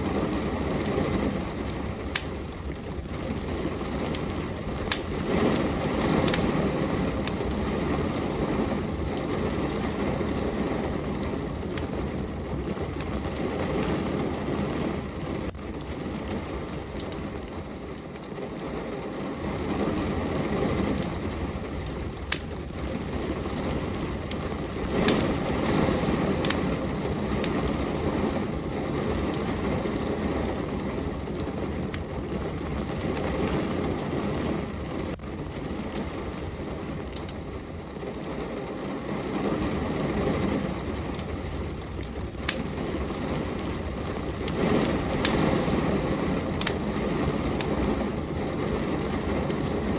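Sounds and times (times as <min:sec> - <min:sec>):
steady rain: 0:00.0 - 0:49.9
wood fire crackling and popping: 0:00.0 - 0:49.9.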